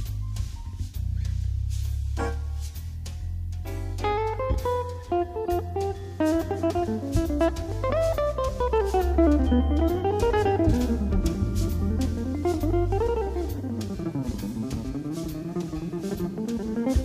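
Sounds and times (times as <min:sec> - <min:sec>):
bass: 0:00.0 - 0:17.0
drum kit beat: 0:00.0 - 0:17.0
jazzy guitar melody: 0:00.0 - 0:17.0.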